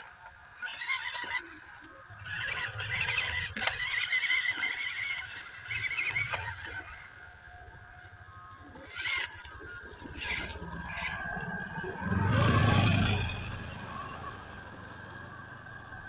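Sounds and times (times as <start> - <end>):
toy truck tyres scraping on wood: 0.0 - 14.1.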